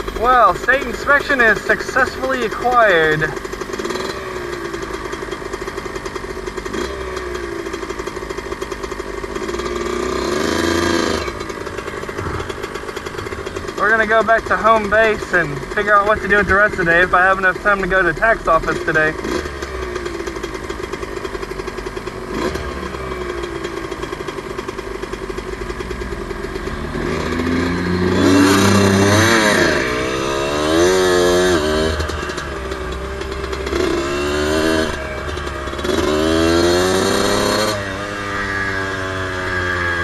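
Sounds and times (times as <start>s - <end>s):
two-stroke engine idling and revving: 0.0s - 40.0s.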